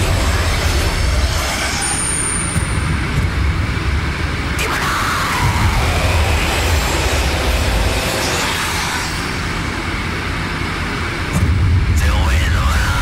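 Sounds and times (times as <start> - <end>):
black metal from vinyl record: 0.0 - 13.0.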